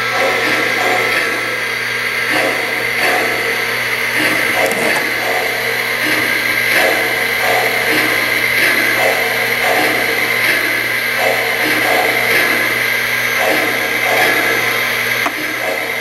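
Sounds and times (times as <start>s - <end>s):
model trains running on track: 0.0s - 16.0s.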